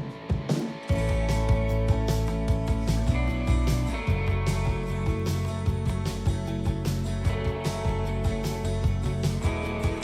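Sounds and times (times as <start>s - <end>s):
band with bass and guitar: 0.0s - 10.0s
drum beat: 0.0s - 10.0s.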